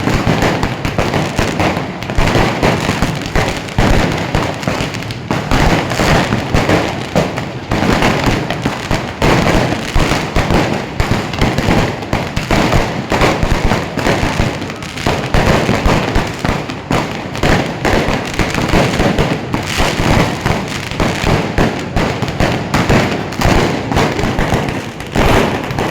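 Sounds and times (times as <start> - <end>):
fireworks banging and crackling: 0.0 - 25.9.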